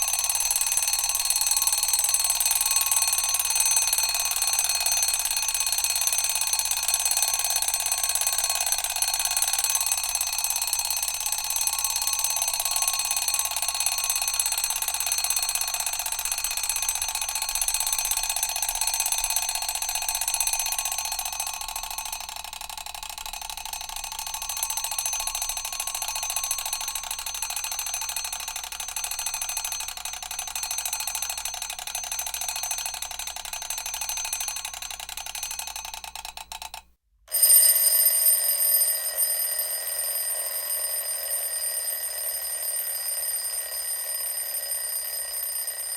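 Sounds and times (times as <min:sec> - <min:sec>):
alarm clock bell ringing: 0:00.0 - 0:45.9.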